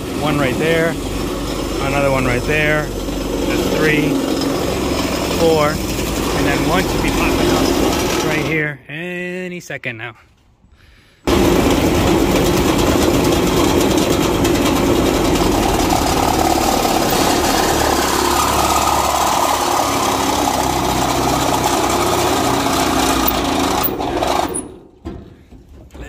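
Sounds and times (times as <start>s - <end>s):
power drill driving screw: 0.2s - 8.5s, 11.4s - 24.8s.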